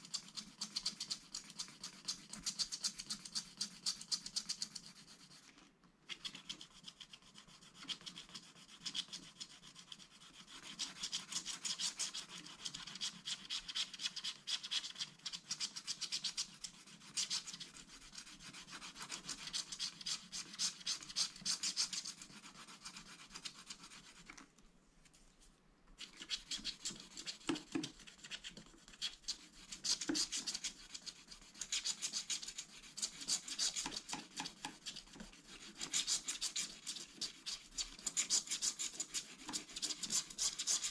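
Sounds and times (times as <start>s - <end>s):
scratching coating off card: 0.0s - 40.9s.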